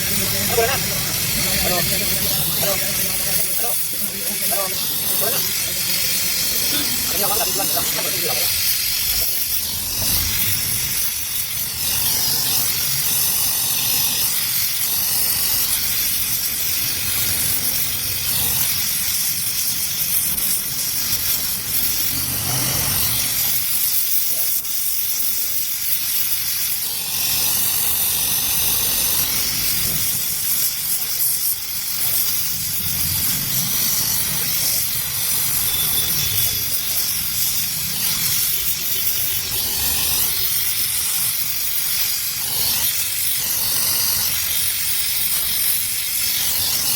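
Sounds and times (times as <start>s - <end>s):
welding torch flame hissing: 0.0s - 46.9s.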